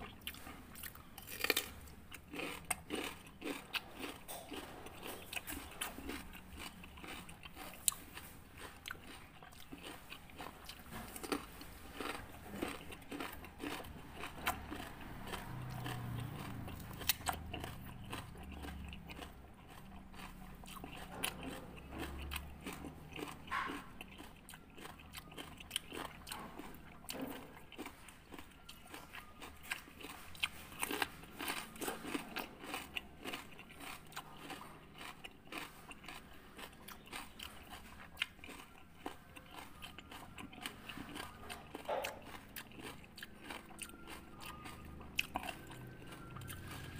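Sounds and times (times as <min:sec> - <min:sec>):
cucumber being bitten and chewed: 0:00.0 - 0:46.9.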